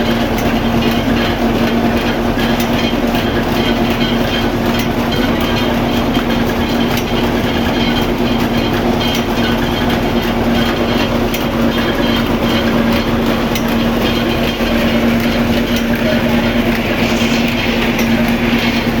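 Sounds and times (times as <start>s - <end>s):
flour mill humming and grinding: 0.0s - 19.0s.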